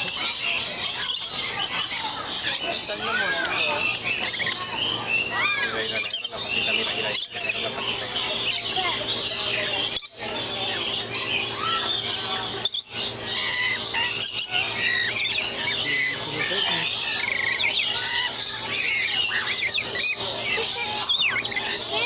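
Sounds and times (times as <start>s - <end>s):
lorikeets squawking and chattering: 0.0s - 22.0s.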